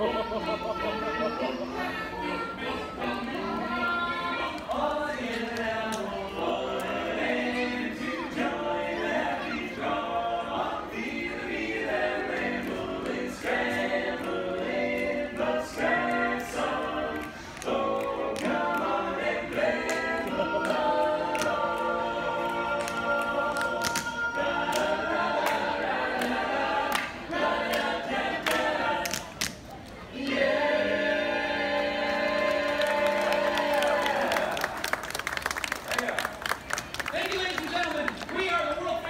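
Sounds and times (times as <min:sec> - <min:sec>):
vocal quartet singing a cappella: 0:00.0 - 0:34.6.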